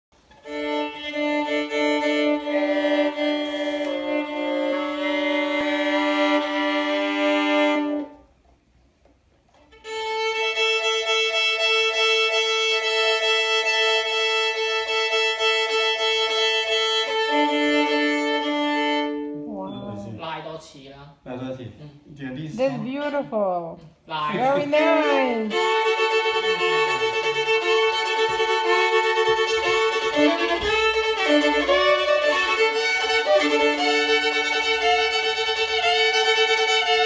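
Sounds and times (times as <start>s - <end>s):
solo violin melody: 0.2s - 8.4s, 9.5s - 20.2s, 24.3s - 37.0s.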